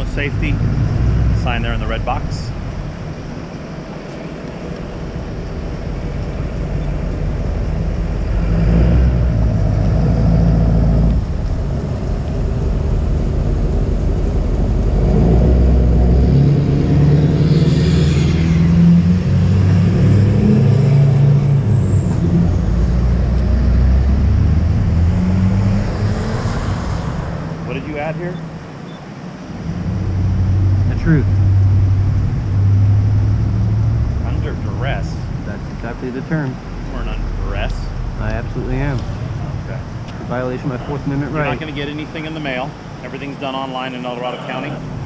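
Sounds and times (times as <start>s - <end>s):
traffic rumbling: 0.0s - 45.0s.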